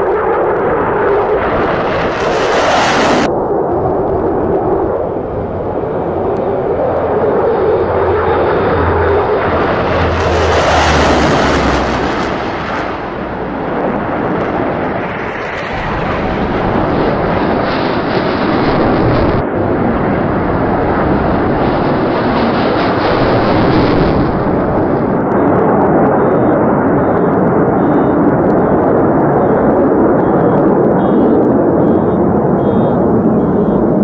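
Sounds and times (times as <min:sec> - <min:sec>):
jet aircraft engine: 0:00.0 - 0:34.0
turboprop aircraft engines: 0:00.0 - 0:34.0.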